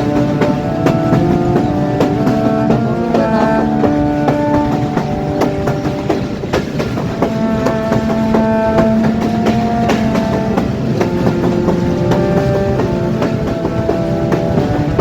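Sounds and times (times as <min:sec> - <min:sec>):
train wheels clacking on rails: 0:00.0 - 0:15.0.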